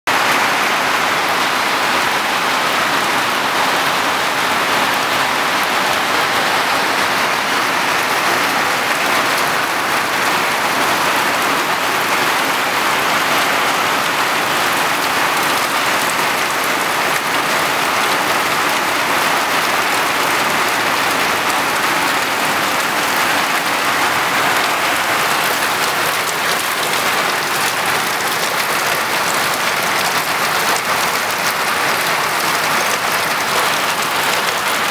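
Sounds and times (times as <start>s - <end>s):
heavy rain pattering: 0.1s - 34.9s.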